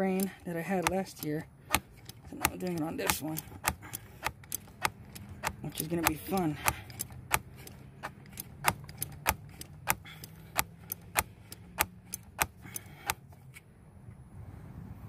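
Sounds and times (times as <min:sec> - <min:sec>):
ratchet wrench clicking: 0:00.0 - 0:13.4.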